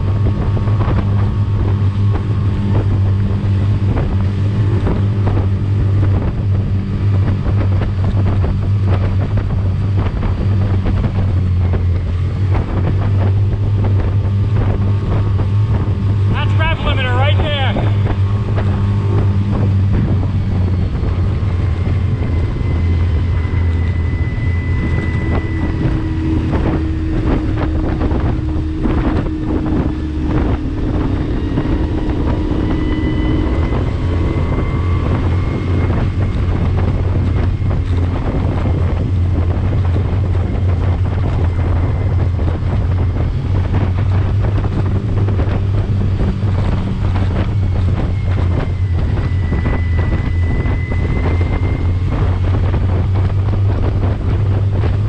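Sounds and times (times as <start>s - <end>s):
outboard motor running flat out: 0.0s - 55.0s
wind on the microphone: 0.0s - 55.0s.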